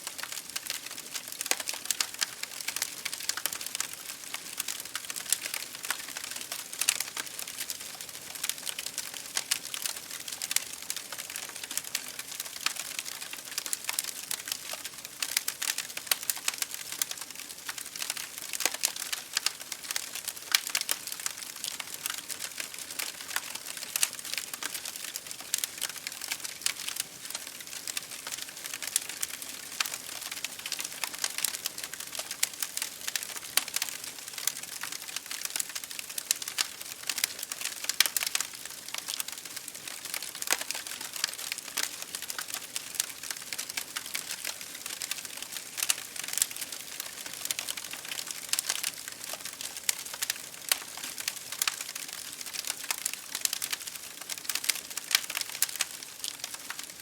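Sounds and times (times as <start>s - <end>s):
rain pattering on window glass: 0.0s - 57.0s
wood fire crackling and popping: 0.0s - 57.0s.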